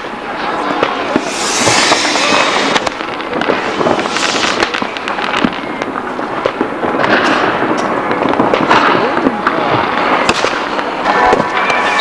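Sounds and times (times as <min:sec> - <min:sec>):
fireworks crackling and banging: 0:00.0 - 0:12.0
firework hiss: 0:00.8 - 0:11.1.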